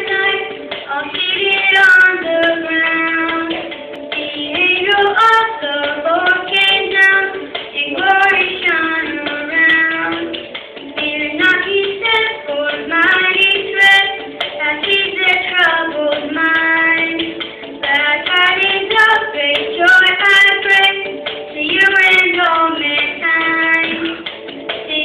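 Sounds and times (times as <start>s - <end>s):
child singing: 0.0s - 10.4s, 11.0s - 24.2s
background music: 0.0s - 25.0s.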